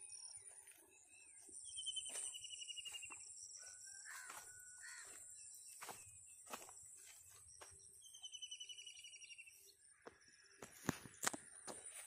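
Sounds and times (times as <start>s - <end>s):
birdsong: 0.0s - 12.0s.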